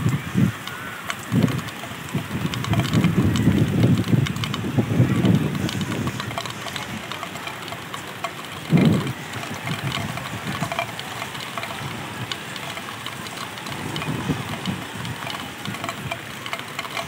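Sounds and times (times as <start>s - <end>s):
falling drops ticking: 0.0s - 17.0s
rain hiss: 0.0s - 17.0s.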